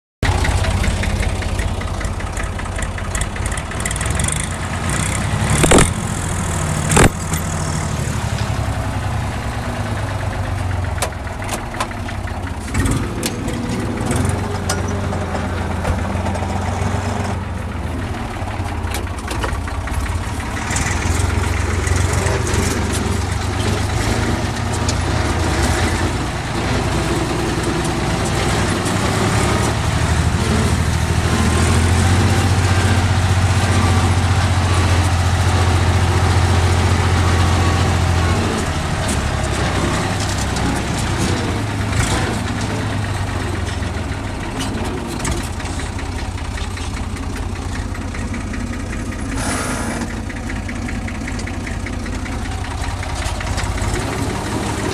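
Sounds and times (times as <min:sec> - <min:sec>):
tractor diesel engine running: 0:00.2 - 0:54.9
cab rattles: 0:10.1 - 0:49.4, 0:50.0 - 0:54.9.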